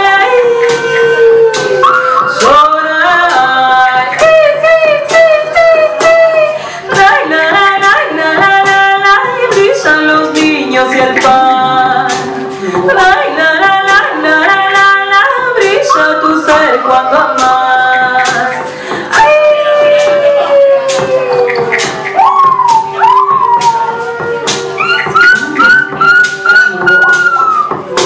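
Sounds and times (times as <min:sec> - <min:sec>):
woman singing long notes: 0:00.0 - 0:28.0.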